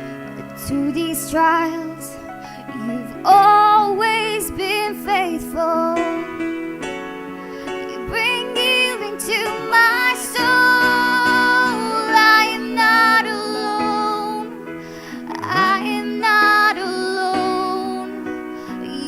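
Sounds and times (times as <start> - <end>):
singers holding long notes: 0.0 - 19.0.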